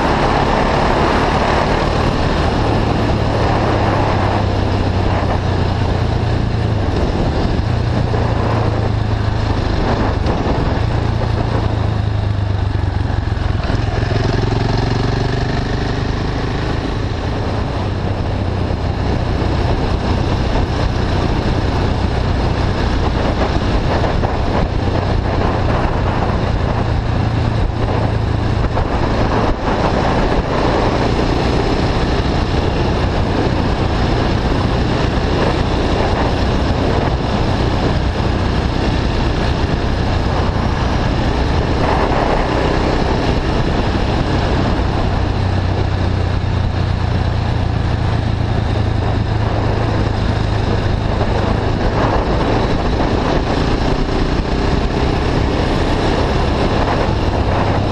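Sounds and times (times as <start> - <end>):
motorcycle engine cruising: 0.0 - 57.9
wind rushing over microphone: 0.0 - 57.9.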